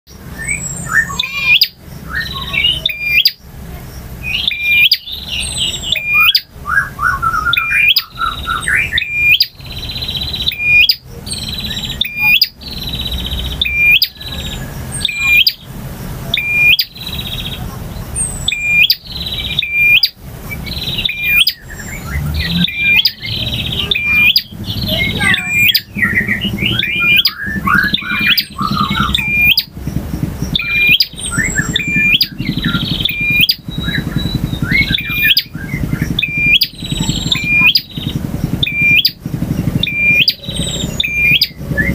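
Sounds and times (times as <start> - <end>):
bird chirping high-pitched: 0.1 - 41.9
low steady hum: 0.1 - 41.9.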